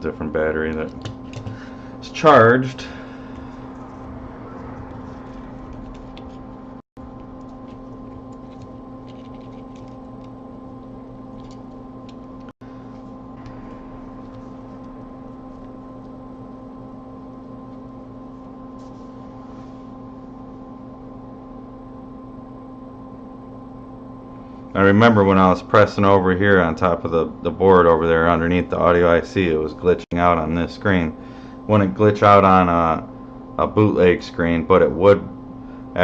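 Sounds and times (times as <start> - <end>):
electrical equipment hum: 0.0 - 36.0.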